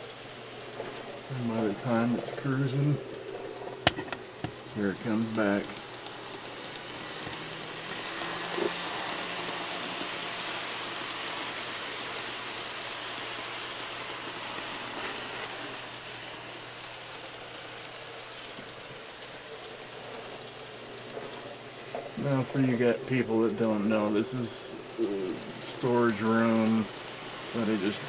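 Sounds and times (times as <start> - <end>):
model train wheels and motors hissing: 0.0 - 28.0.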